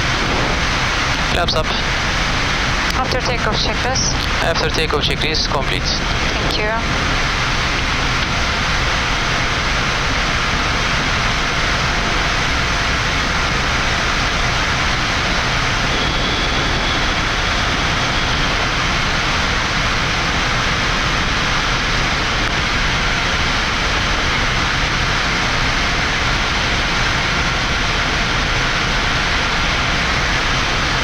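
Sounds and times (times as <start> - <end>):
airflow and jet engine noise: 0.0 - 31.0.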